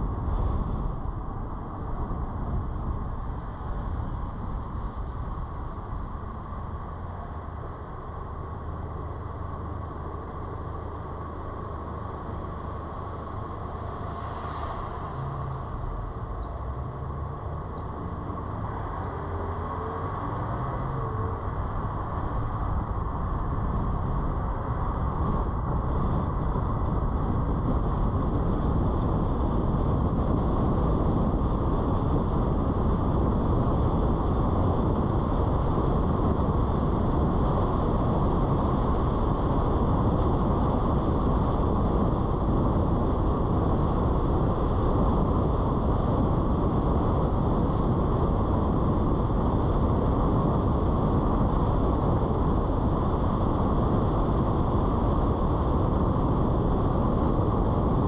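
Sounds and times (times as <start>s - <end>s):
car road and tyre noise: 0.0s - 58.0s.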